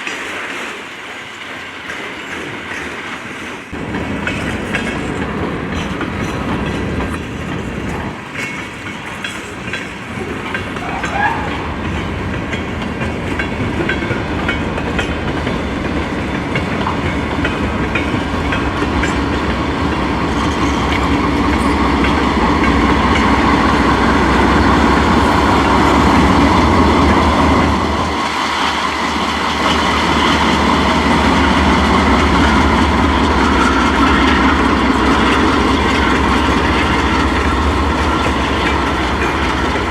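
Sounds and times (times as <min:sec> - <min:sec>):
train wheels clicking over rails: 0:00.0 - 0:39.9.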